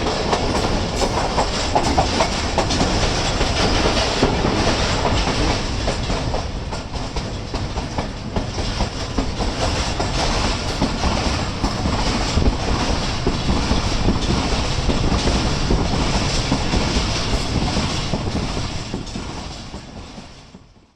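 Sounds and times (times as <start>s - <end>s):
train wheels clattering over rail joints: 0.0s - 20.9s.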